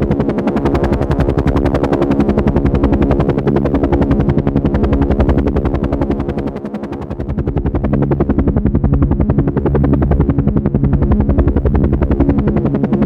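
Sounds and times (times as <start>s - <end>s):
helicopter engine hum: 0.0s - 13.0s
helicopter rotor blades beating: 0.0s - 13.0s.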